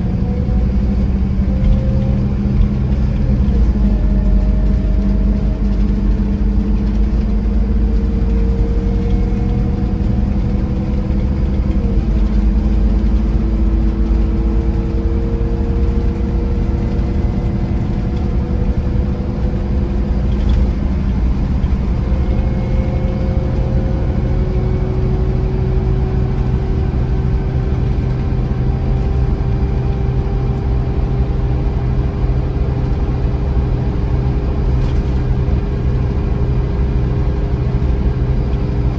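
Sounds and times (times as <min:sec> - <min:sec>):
coach engine running: 0:00.0 - 0:38.9.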